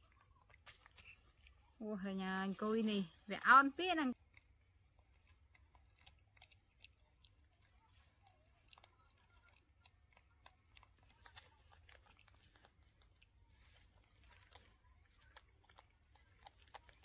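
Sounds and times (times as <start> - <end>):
monkeys chewing bread: 0.0 - 17.0.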